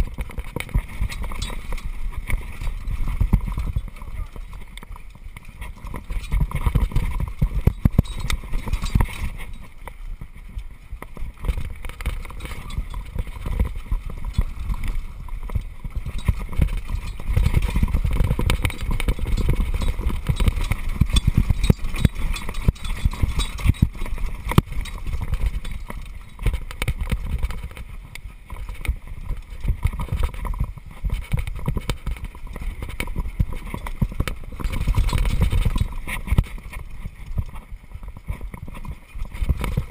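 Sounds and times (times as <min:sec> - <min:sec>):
bike frame and chain rattling: 0:00.0 - 0:39.9
wind rumble on microphone: 0:00.0 - 0:39.9.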